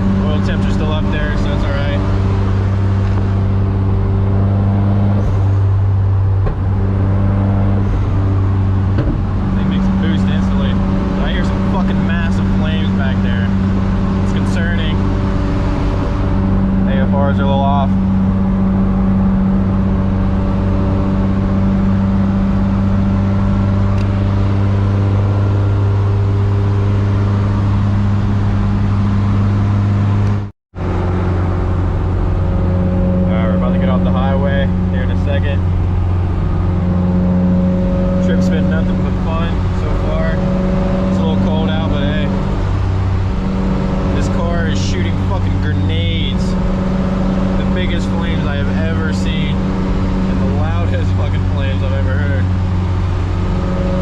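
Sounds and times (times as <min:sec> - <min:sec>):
car engine drone at highway speed: 0:00.0 - 0:54.0.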